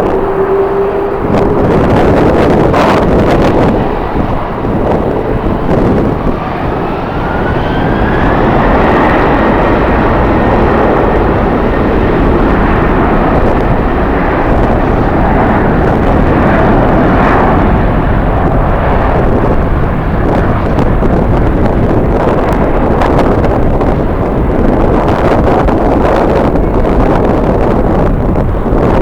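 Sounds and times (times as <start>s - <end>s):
jet engines roaring: 0.0s - 29.0s
wind buffeting microphone: 0.0s - 29.0s.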